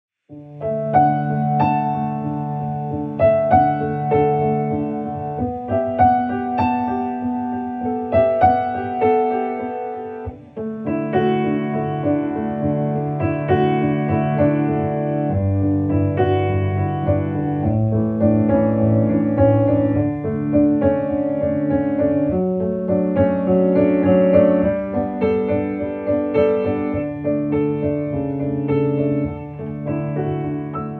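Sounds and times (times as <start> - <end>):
background piano music: 0.2 - 30.9.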